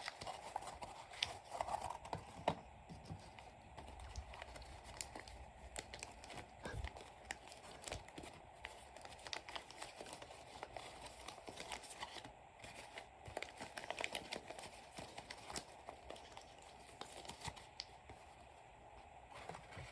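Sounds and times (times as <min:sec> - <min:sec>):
paper crinkling: 0:00.0 - 0:18.6.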